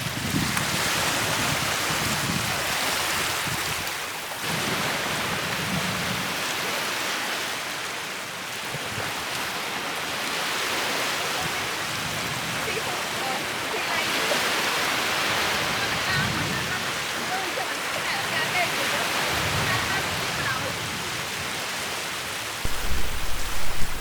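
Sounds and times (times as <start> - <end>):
sea surf washing onto beach: 0.0 - 24.0.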